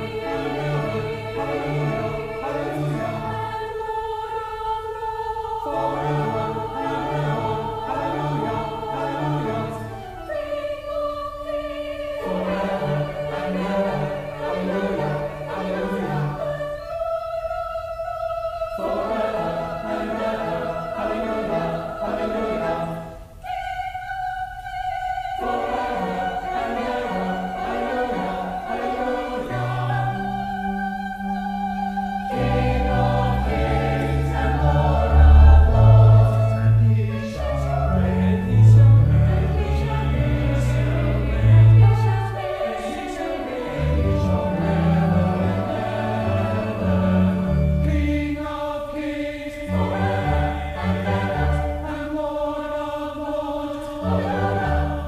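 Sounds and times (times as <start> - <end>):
mixed choir singing a hymn: 0.0 - 55.0.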